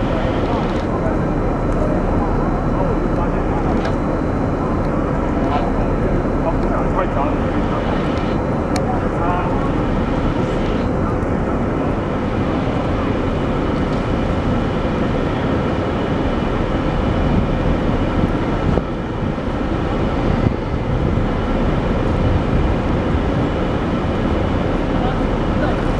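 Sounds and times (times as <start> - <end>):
city traffic hum: 0.0 - 25.9
faint steady machine tones: 0.0 - 25.9.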